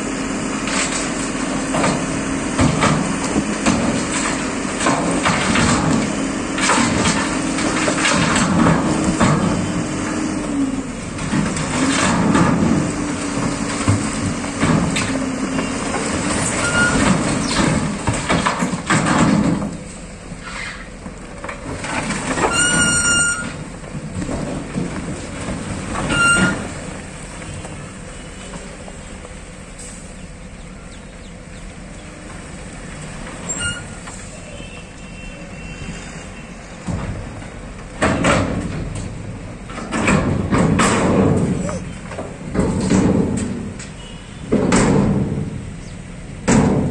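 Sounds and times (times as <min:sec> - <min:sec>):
truck engine running: 0:00.0 - 0:46.9
soil and rubble sliding: 0:00.4 - 0:30.4, 0:31.7 - 0:44.2.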